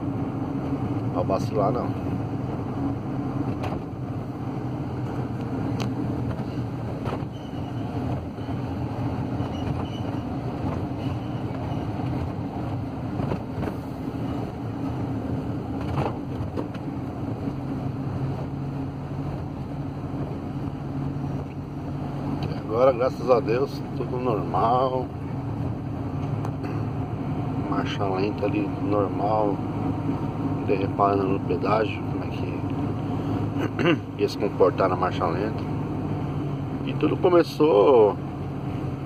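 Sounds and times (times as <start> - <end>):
road noise: 0.0 - 39.0
van engine hum: 0.0 - 39.0.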